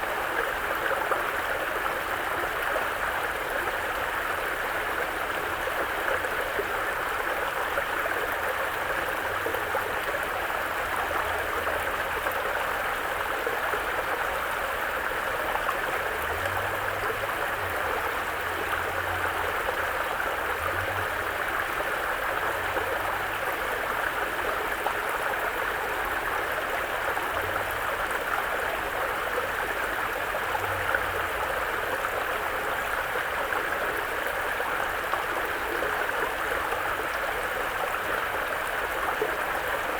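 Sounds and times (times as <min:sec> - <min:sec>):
mountain brook flowing: 0:00.0 - 0:39.9.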